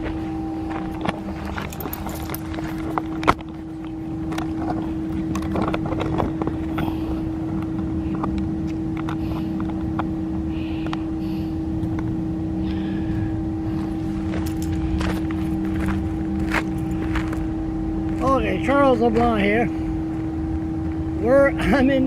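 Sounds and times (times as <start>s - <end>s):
low rumble: 0.0s - 21.4s
motor hum: 0.0s - 22.0s.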